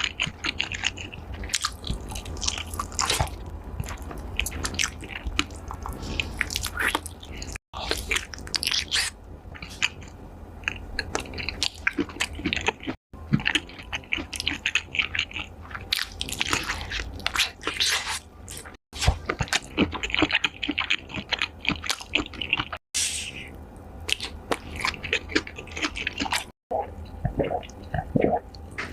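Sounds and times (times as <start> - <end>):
close-miked eating crunching chewing: 0.0 - 28.8.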